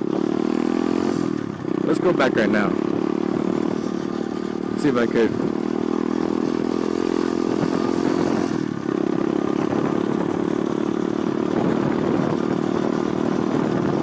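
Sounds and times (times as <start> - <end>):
small motorbike engine running: 0.0 - 14.0.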